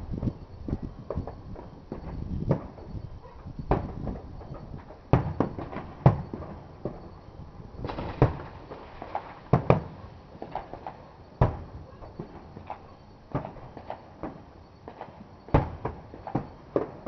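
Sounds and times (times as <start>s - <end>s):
fireworks bangs and pops: 0.0s - 3.0s, 3.6s - 7.2s, 7.8s - 17.0s.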